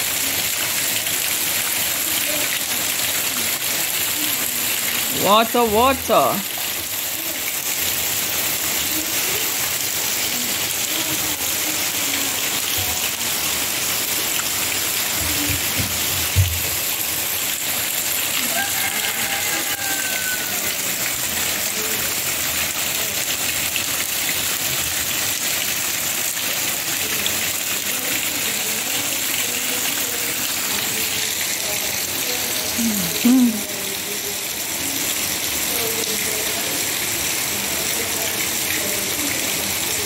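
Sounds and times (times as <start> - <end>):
rain on roofs and plastic drums: 0.0 - 40.0.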